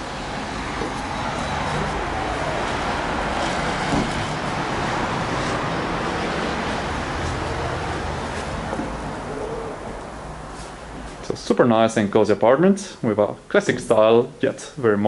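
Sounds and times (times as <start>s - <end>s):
street traffic hiss: 0.0s - 14.9s.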